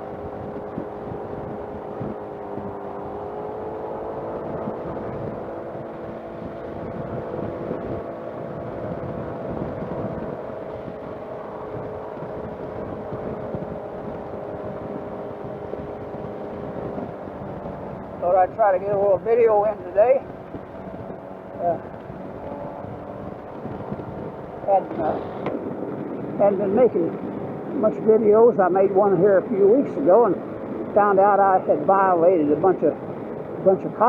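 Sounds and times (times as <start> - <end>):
road and wind noise: 0.0 - 34.0
scooter engine droning: 0.0 - 34.0.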